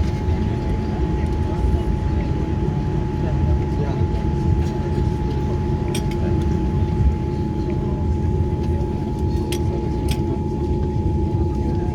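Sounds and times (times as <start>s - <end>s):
airliner cabin rumble: 0.0s - 11.9s.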